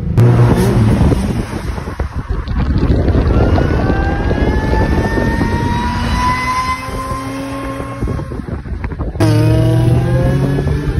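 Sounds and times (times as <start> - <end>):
car engine accelerating: 0.1 - 10.9.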